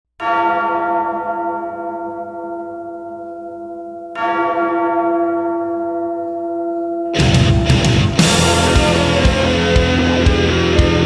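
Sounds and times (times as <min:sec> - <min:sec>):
deep bell ringing: 0:00.2 - 0:11.0.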